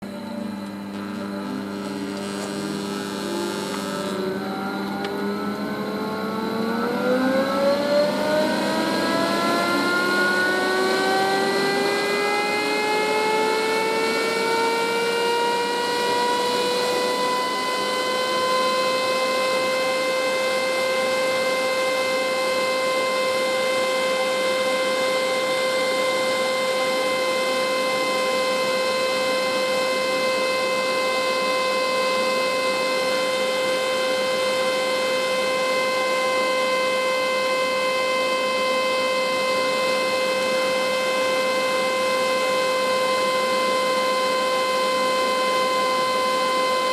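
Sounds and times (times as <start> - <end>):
blower fan whine rising: 0.0 - 46.9.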